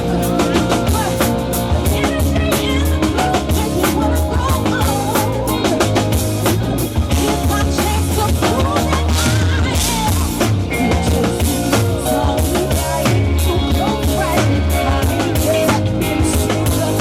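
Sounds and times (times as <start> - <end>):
bass guitar: 0.0 - 17.0
drum kit beat: 0.0 - 17.0.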